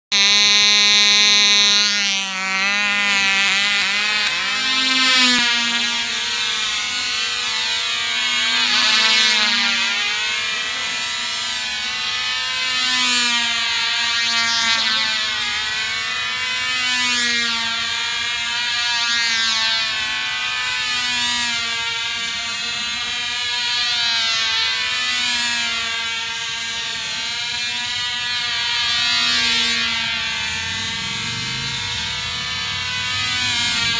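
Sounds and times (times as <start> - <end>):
model airplane engine whine: 0.1 - 33.9.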